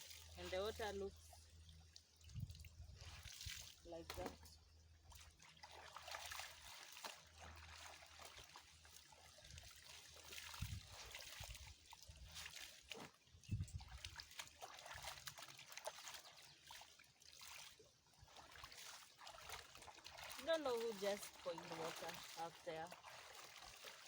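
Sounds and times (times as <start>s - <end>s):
stream water trickling: 0.0s - 24.0s.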